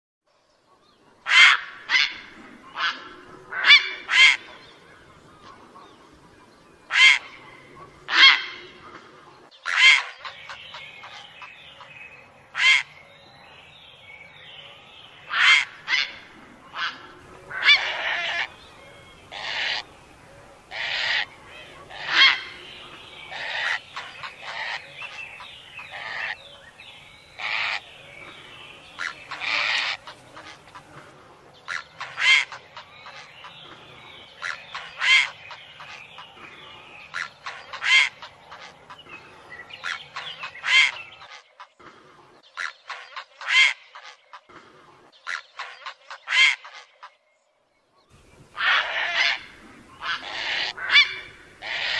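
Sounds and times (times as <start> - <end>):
faint bird chatter: 0.4 - 51.9
herons calling harshly: 1.2 - 6.0, 6.9 - 8.8, 9.6 - 13.0, 14.6 - 41.7, 45.2 - 46.8, 48.3 - 51.9.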